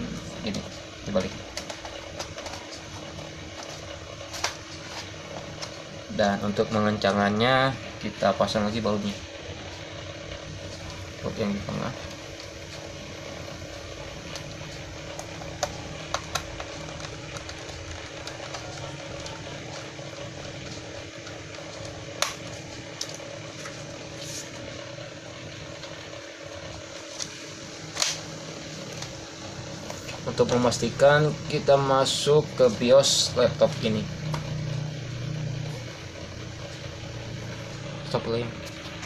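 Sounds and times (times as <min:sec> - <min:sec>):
steady background hum: 0:00.0 - 0:39.0.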